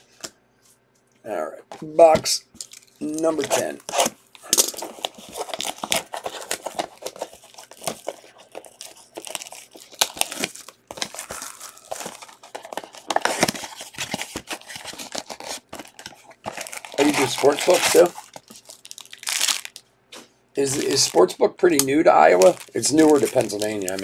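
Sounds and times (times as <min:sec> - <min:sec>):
cellophane crinkling and tearing: 0:02.6 - 0:19.9, 0:20.6 - 0:21.3, 0:22.2 - 0:24.0.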